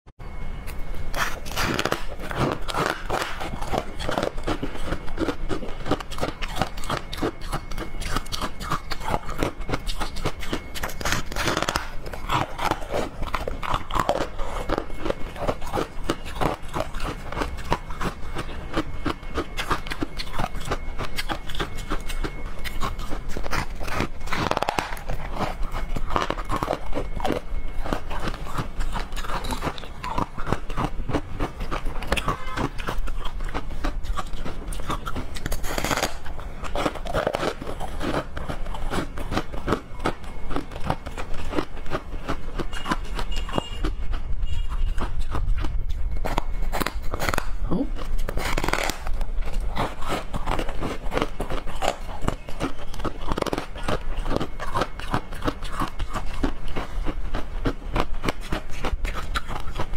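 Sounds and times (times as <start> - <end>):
crunching frozen chocolate: 0.5 - 59.9.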